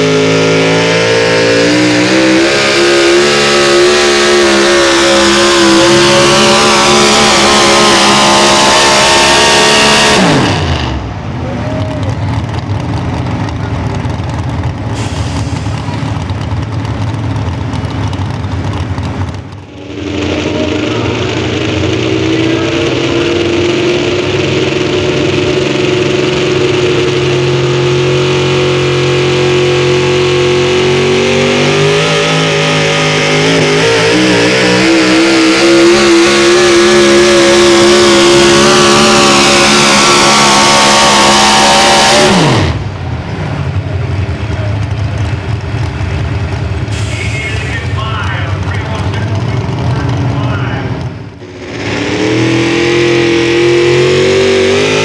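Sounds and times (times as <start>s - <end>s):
vehicle engine running under load: 0.0s - 55.0s.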